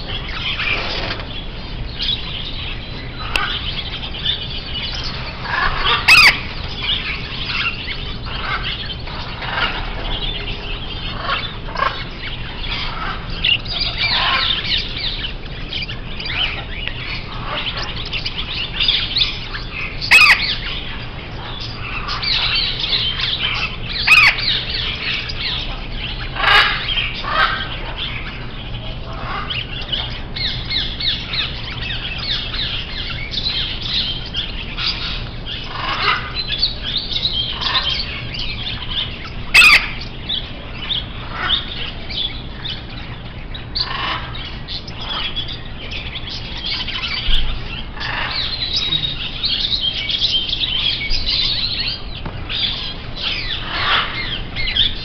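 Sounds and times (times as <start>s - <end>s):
caged birds chirping and squawking: 0.0s - 55.0s.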